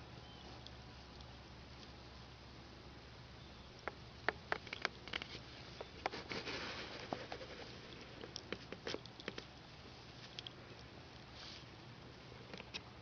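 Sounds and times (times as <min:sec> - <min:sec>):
rustle: 0:00.0 - 0:13.0.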